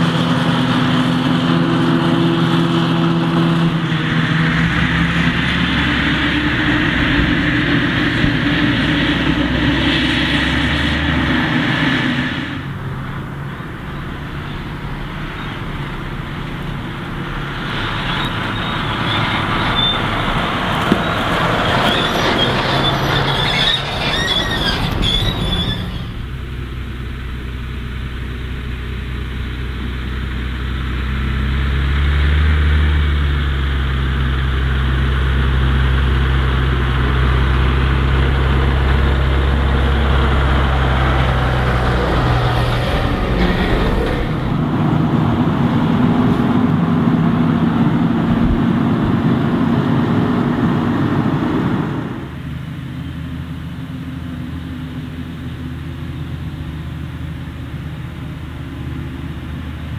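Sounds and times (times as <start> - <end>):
rush of tyre and trailer noise: 0.0 - 59.9
tractor engine running: 0.0 - 59.9.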